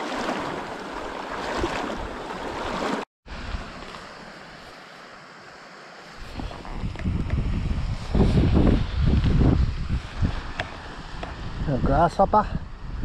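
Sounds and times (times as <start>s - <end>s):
stream water running: 0.0s - 13.0s
wind: 0.0s - 13.0s.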